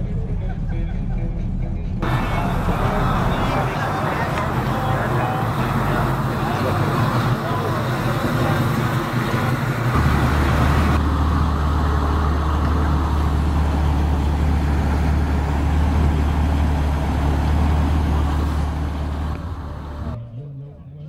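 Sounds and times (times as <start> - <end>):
muscle car engine: 0.0 - 20.2
engine low rumble: 0.0 - 21.0.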